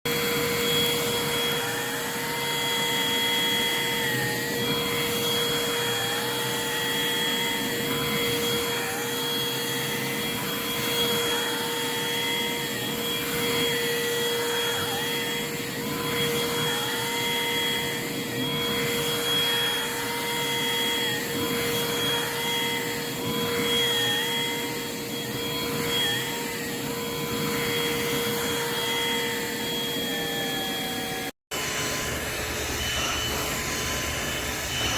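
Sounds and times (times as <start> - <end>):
hand vacuum motor whine: 0.0 - 34.9.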